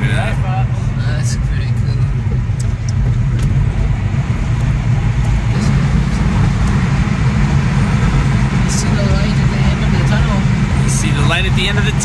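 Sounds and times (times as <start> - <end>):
car rumble in tunnel: 0.0 - 12.0.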